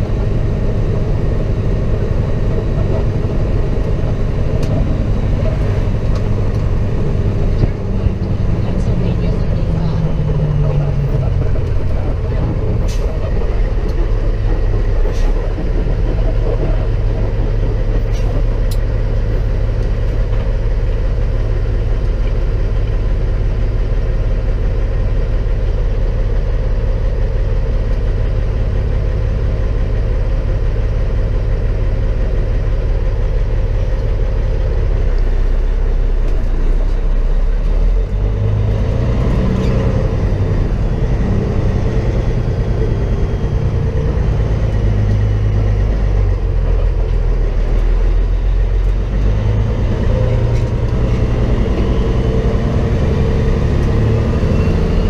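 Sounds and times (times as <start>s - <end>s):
truck diesel engine: 0.0s - 55.0s.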